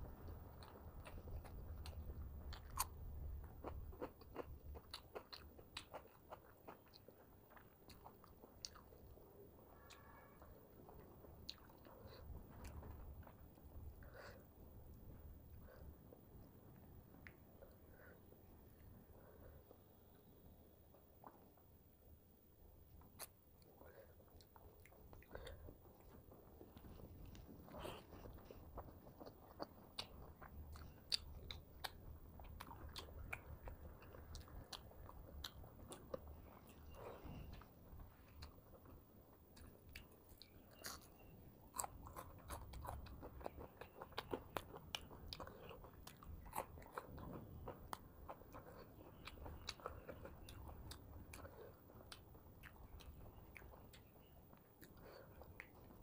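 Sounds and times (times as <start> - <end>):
person chewing crunchy food: 0.3 - 14.4, 23.0 - 56.0.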